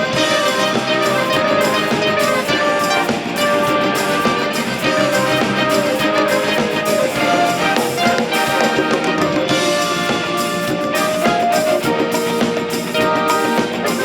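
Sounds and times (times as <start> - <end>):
orchestral music with brass: 0.0 - 14.0.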